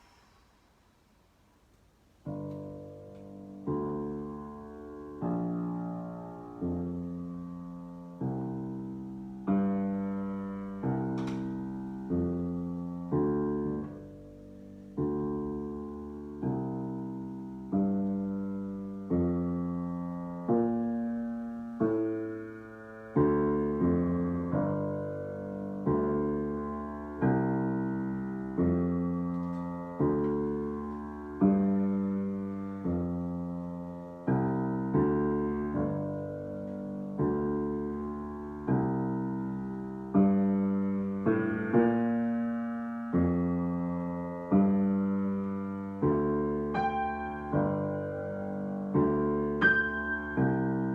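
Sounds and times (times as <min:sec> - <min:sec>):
slow piano chords: 0:01.6 - 0:50.9.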